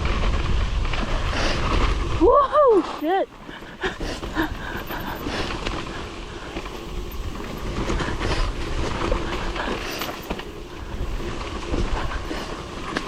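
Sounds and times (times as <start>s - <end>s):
bike rattling over rough ground: 0.0s - 13.0s
wind rumbling on microphone: 0.0s - 13.0s.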